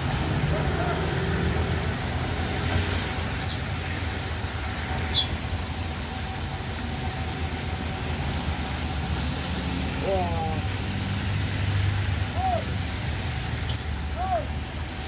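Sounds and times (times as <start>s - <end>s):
diesel truck engine running: 0.0s - 15.0s
passing road traffic: 0.0s - 15.0s.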